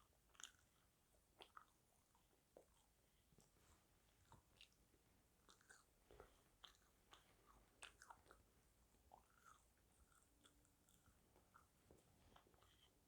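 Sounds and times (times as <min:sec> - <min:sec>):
mouth chewing food: 0:00.0 - 0:13.0.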